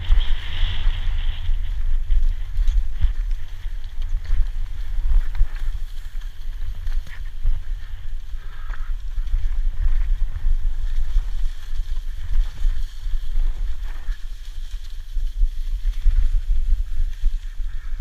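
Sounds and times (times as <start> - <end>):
bike tyre noise: 0.0 - 18.0
wind buffeting on microphone: 0.0 - 18.0.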